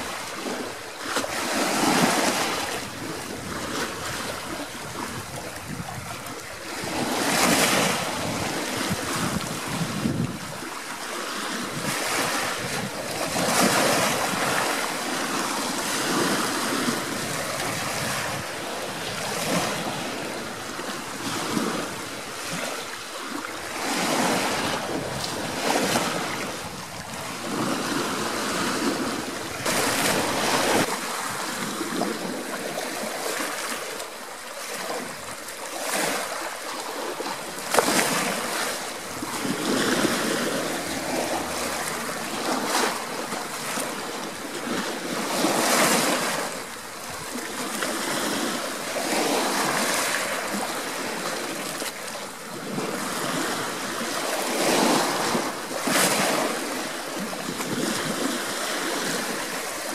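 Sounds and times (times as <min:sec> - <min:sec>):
waves washing over pebbles: 0:00.0 - 0:59.9.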